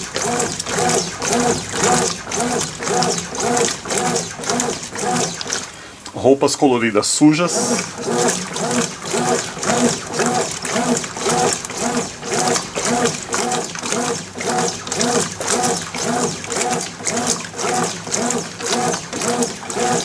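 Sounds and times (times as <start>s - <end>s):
water sloshing: 0.0s - 6.1s, 7.2s - 20.0s
washing machine motor hum: 0.0s - 20.0s.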